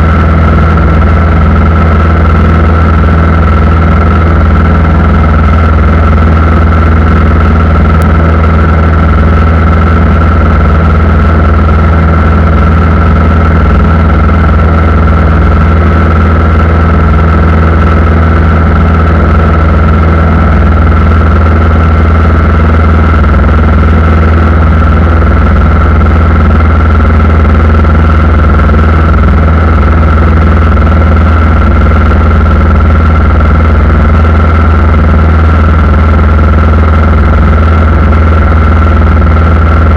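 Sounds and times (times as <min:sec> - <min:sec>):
airliner engines humming: 0:00.0 - 0:39.9
high engine whine: 0:00.0 - 0:39.9.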